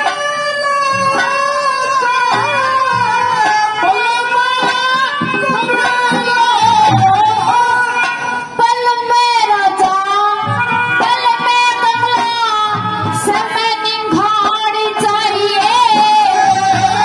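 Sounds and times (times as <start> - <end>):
dholak drum beating: 0.0 - 17.0
harmonium drone: 0.0 - 17.0
woman singing: 0.0 - 17.0.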